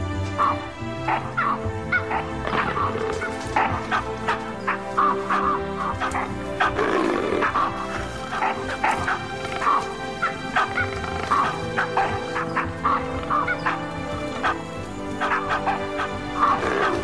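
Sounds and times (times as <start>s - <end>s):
background music sustained tones: 0.0s - 17.0s
barking animal calls: 0.3s - 17.0s.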